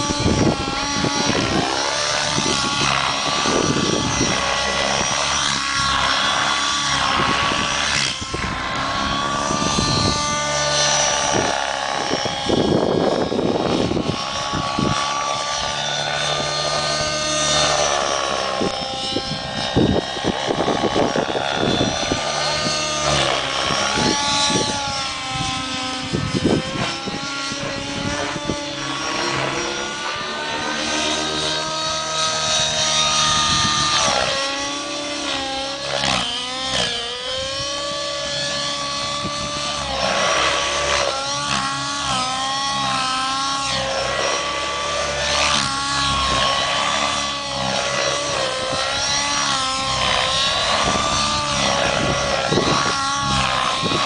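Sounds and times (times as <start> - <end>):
model helicopter engine and rotor: 0.0 - 54.0.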